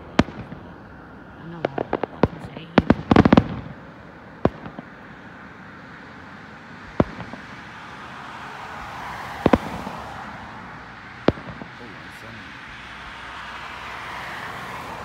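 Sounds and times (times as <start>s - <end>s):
distant firework bangs: 0.0s - 13.2s.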